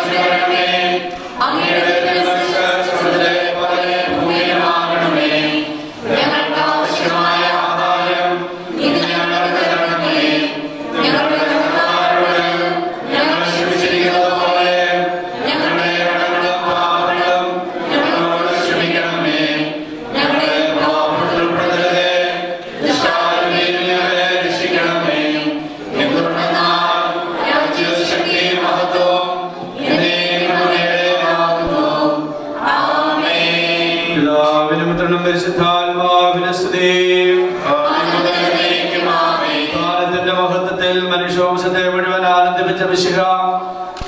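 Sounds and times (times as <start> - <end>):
voices chanting: 0.0 - 41.4.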